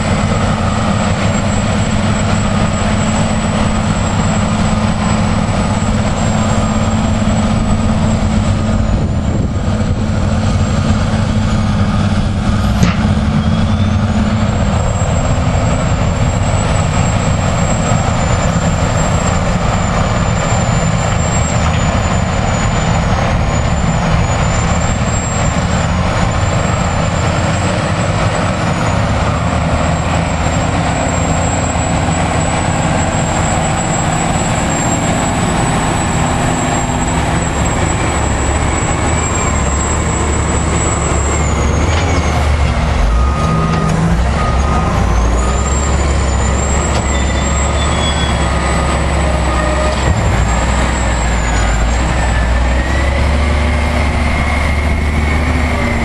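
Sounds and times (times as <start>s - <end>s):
diesel engine rumbling under load: 0.0s - 56.0s.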